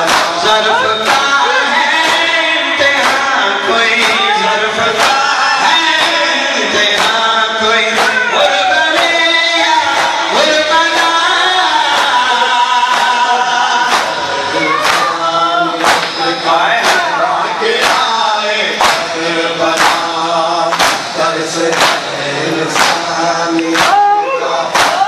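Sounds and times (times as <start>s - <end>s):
group of men chanting: 0.0s - 25.0s
man singing a lament into a microphone: 0.0s - 25.0s.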